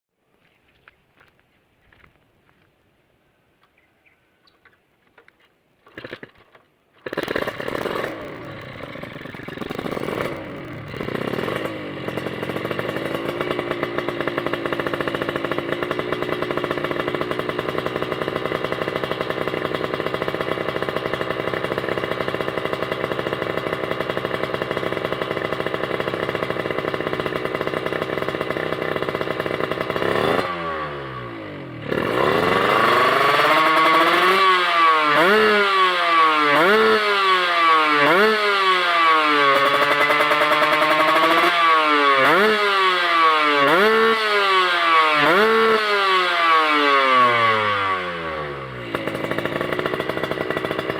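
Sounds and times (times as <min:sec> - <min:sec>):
motorcycle engine revving and idling: 0:05.9 - 0:50.9.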